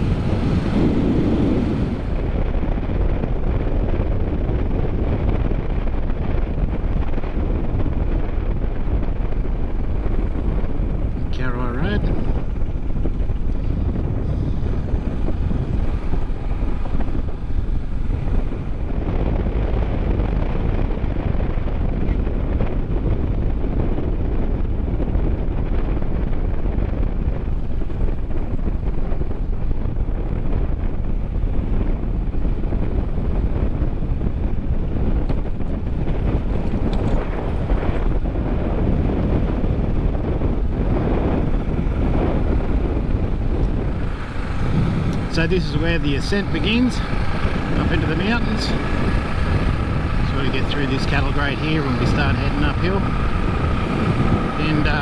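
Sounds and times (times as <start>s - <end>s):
motorcycle engine running: 0.0s - 23.8s, 27.5s - 55.0s
wind rushing over microphone: 0.0s - 55.0s.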